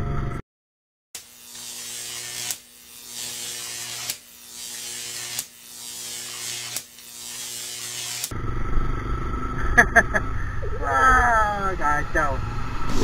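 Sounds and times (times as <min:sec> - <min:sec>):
electric hum: 0:01.2 - 0:13.0.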